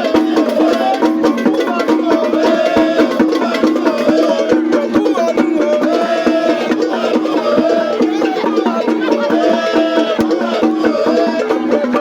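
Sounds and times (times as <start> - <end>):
percussion of sharp knocks: 0.0 - 12.0.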